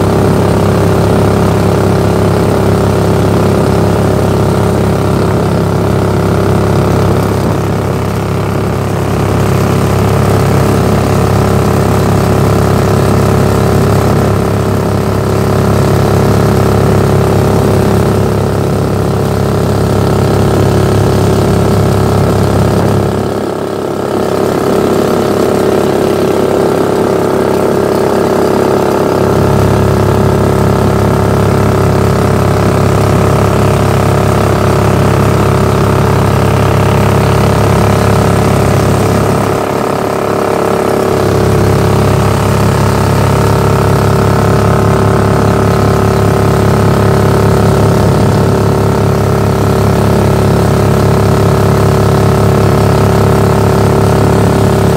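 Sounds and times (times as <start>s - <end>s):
boat motor running: 0.0s - 54.9s.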